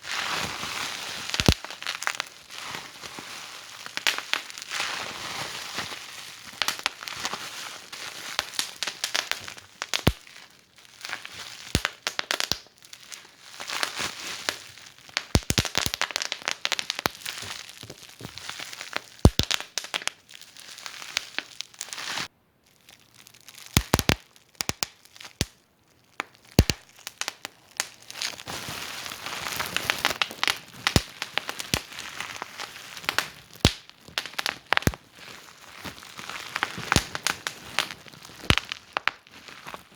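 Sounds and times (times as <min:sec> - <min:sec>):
wood fire crackling: 0:01.2 - 0:03.0, 0:03.6 - 0:04.7, 0:06.4 - 0:22.2, 0:22.8 - 0:39.9.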